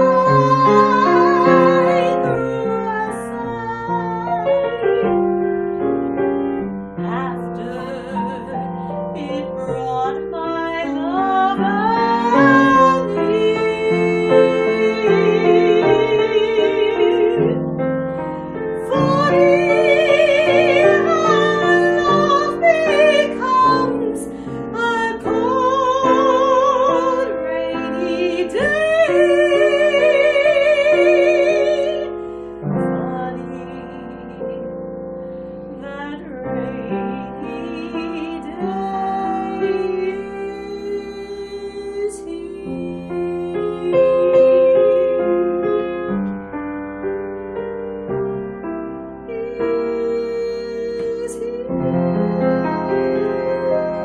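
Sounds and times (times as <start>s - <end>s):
woman singing with vibrato: 0.0s - 5.2s, 7.0s - 17.6s, 18.8s - 34.8s, 35.7s - 45.2s, 49.3s - 54.0s
piano accompaniment: 0.0s - 54.0s.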